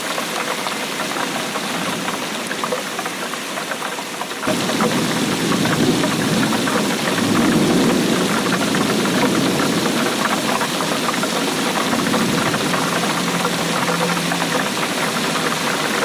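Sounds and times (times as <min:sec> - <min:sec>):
heavy rain patter: 0:00.0 - 0:16.0.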